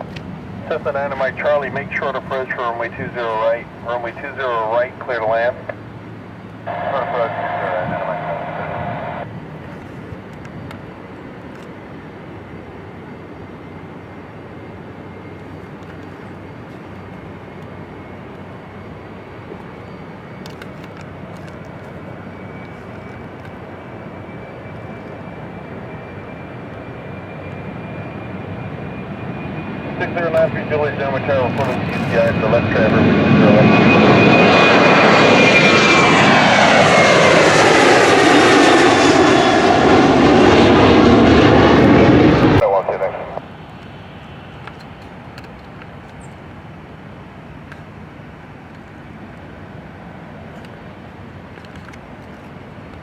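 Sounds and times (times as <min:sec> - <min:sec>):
aircraft engine noise: 0:00.0 - 0:53.0
faint high whine: 0:00.0 - 0:53.0.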